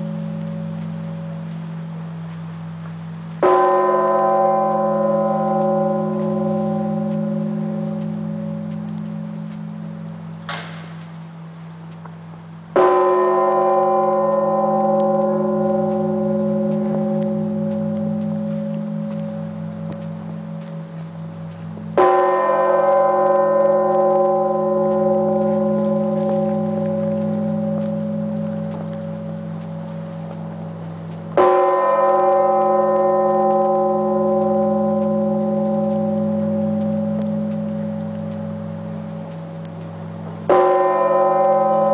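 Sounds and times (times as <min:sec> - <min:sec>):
church bell ringing: 0:00.0 - 0:10.4, 0:12.7 - 0:41.9
low hum of bell: 0:00.0 - 0:10.5, 0:11.1 - 0:41.9.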